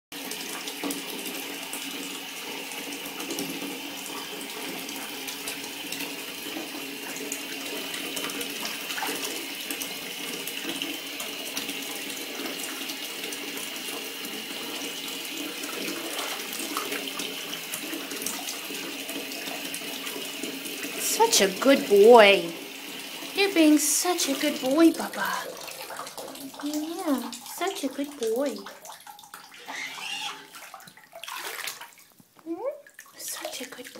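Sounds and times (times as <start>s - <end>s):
tap water running into bathtub: 0.2s - 33.9s.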